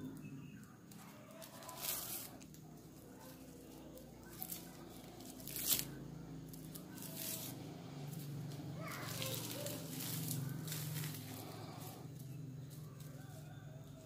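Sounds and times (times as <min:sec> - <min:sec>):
plastic strips rustling and crinkling: 0:00.8 - 0:14.0.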